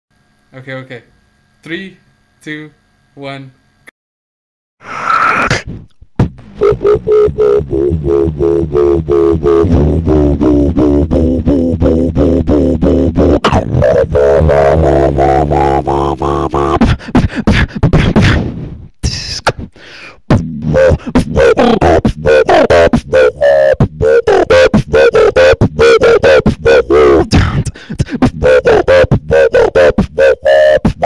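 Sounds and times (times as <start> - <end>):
beatboxing: 4.8 - 31.0.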